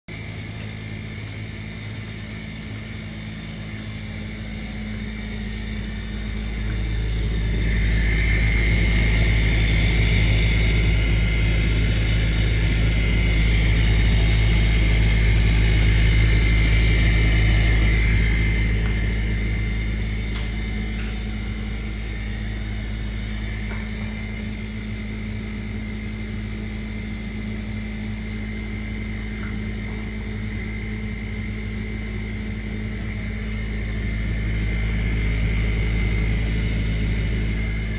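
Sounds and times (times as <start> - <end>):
dishwasher grinding drone: 0.1 - 37.9.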